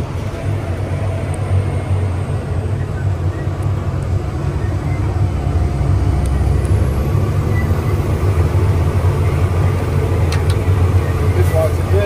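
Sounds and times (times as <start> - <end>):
crop sprayer engine droning: 0.0 - 12.0.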